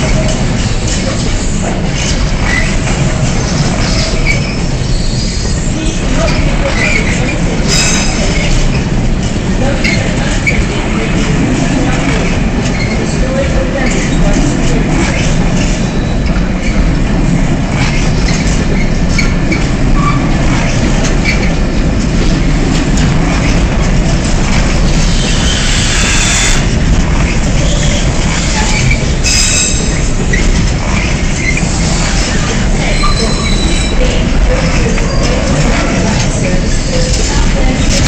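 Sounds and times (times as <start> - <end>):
train wheels rumbling on rail: 0.0 - 38.0
wheels squealing: 0.0 - 38.0.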